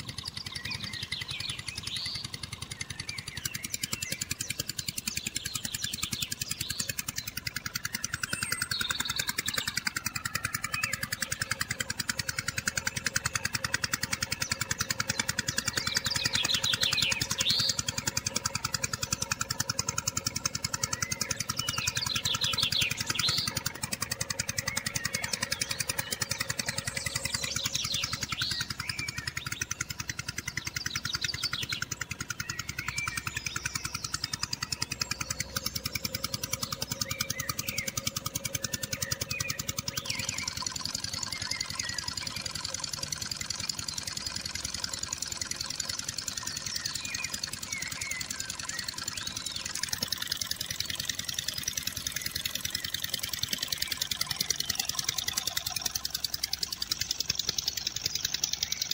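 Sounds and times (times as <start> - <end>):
birds chirping: 0.0 - 58.9
diesel engine chugging: 0.0 - 58.9.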